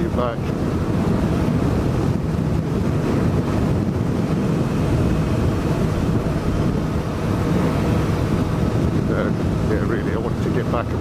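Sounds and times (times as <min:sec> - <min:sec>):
wind rushing over microphone: 0:00.0 - 0:11.0
motorcycle engine running: 0:00.5 - 0:10.3.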